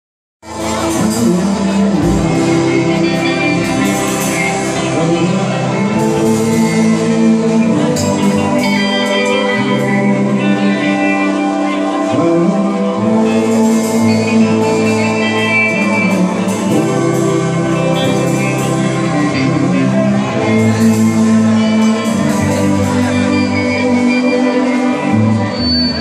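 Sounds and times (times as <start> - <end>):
live pop-rock band: 0.4 - 26.0.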